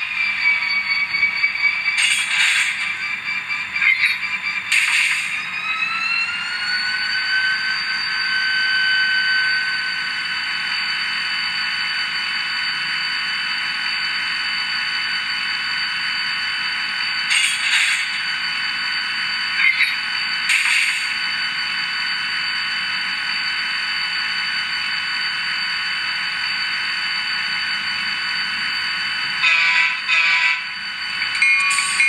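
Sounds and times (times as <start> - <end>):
model locomotive diesel whine: 0.0 - 32.0.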